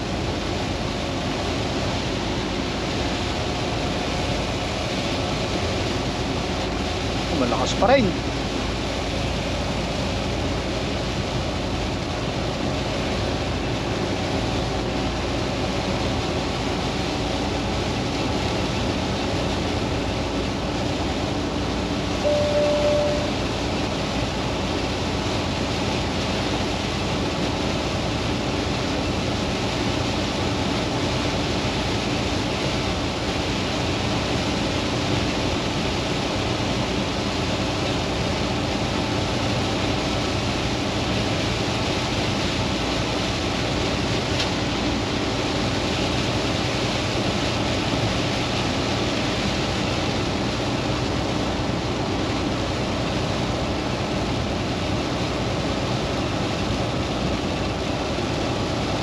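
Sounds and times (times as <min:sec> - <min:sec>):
heavy rain and road spray hiss: 0:00.0 - 0:59.0
truck engine drone: 0:00.0 - 0:59.0.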